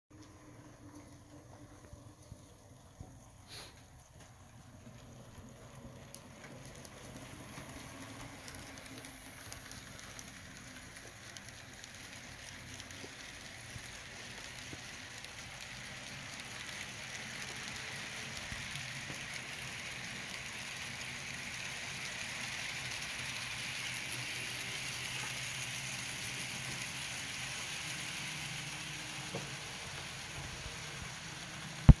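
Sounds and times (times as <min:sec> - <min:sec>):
model train wheels rattling: 0:04.0 - 0:32.0.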